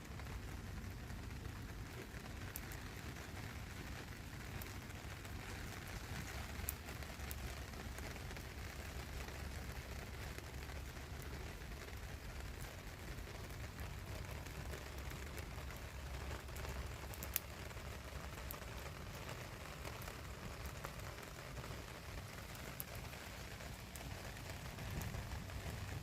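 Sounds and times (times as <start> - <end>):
small wood fire crackling: 0.0 - 26.0.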